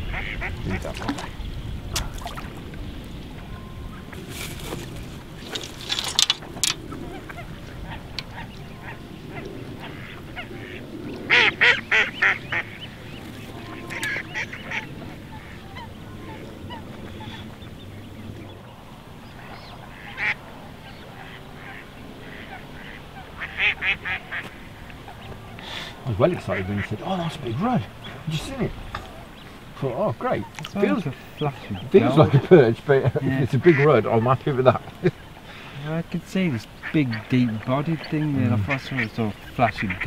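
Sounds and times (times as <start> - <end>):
waterfowl honking: 0.0 - 2.3, 3.3 - 40.0.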